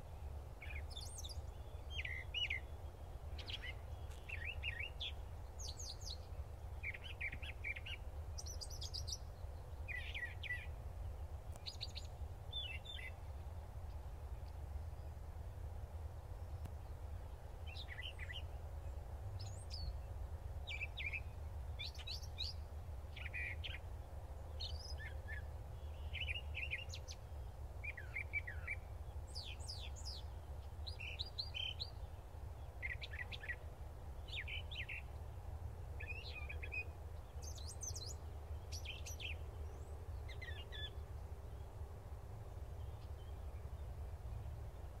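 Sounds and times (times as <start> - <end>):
bird chirping: 0.0 - 15.2, 17.6 - 20.1, 20.7 - 33.6, 34.2 - 35.3, 36.0 - 41.7.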